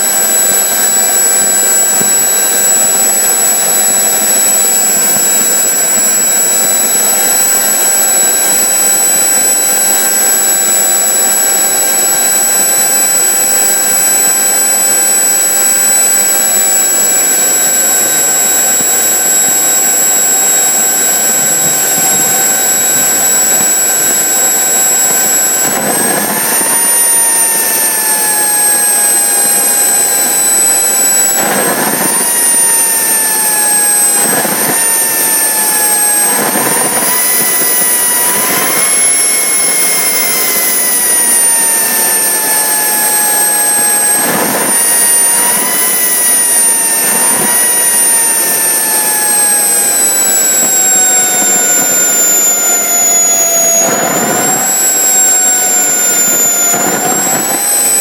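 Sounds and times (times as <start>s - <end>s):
high turbine whine: 0.0s - 58.0s
jet engine rush: 0.0s - 58.0s.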